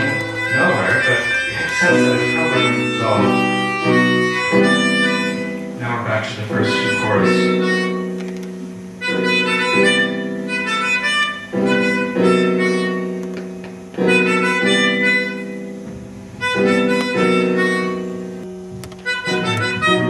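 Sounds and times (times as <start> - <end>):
keyboard chords ringing: 0.0 - 20.0.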